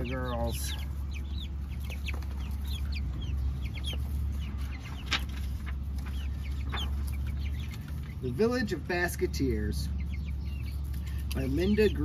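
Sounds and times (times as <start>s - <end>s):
hens clucking and cheeping: 0.0s - 12.0s
steady low hum: 0.0s - 12.0s.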